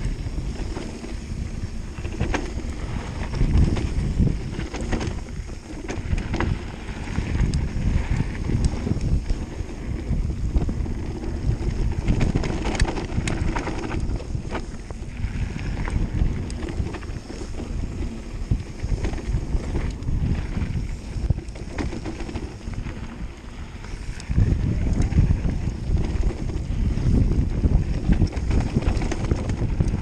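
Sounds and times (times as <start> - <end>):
bike clicks and rattles: 0.0 - 30.0
bike tyres rolling over gravel: 0.0 - 30.0
wind buffeting microphone: 0.0 - 30.0.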